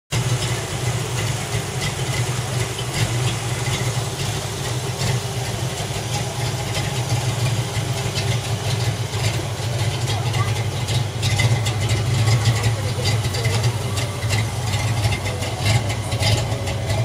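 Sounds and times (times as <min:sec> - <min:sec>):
car engine idling: 0:00.1 - 0:17.0.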